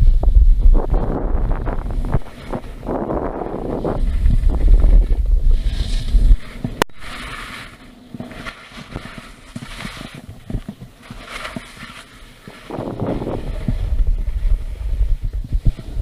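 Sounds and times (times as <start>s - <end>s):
wind on microphone: 0.0s - 16.0s
skis scraping over snow: 1.0s - 16.0s.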